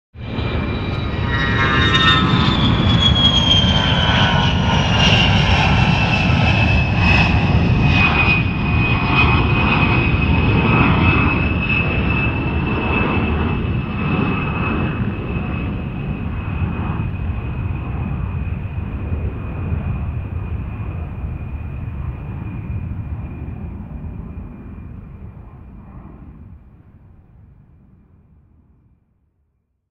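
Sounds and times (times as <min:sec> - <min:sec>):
jet engine rumble and whine: 0:00.2 - 0:29.0.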